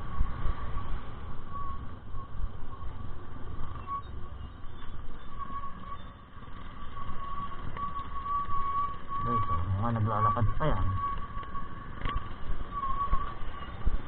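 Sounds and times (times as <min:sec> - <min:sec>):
thin steady whine: 0:00.0 - 0:14.0
wind and road rumble: 0:00.0 - 0:14.0.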